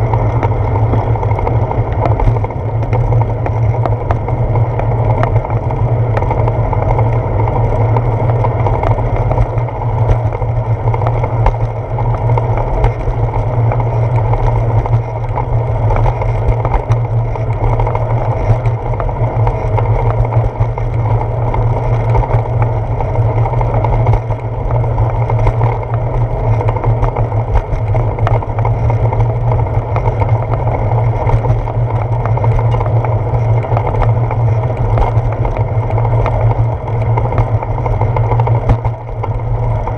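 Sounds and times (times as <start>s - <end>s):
bicycle riding rumble: 0.0s - 39.9s.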